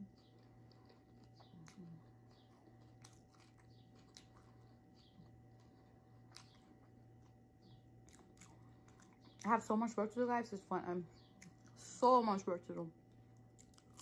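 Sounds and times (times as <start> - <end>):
chewing crispy food: 0.0 - 12.1, 13.0 - 14.0
low steady hum: 0.0 - 14.0.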